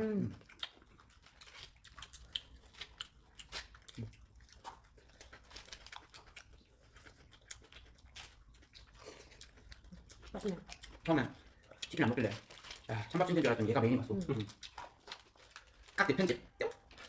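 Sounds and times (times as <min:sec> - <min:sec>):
people chewing crunchy food: 0:00.0 - 0:17.0.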